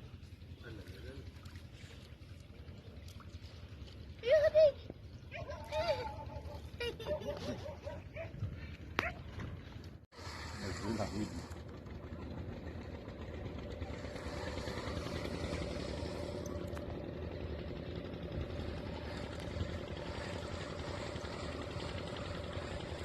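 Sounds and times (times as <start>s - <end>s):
boat engine running steadily: 0.0s - 23.0s.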